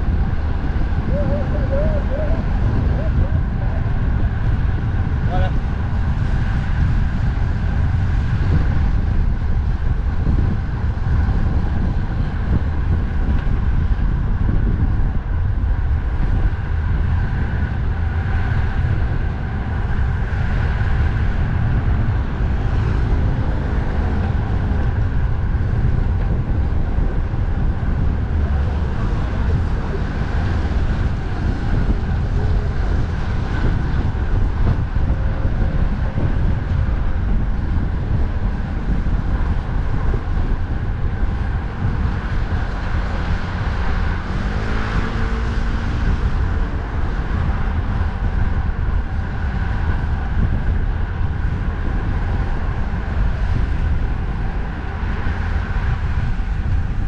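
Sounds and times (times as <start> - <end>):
road traffic: 0.0 - 57.0
wind buffeting microphone: 0.0 - 57.0.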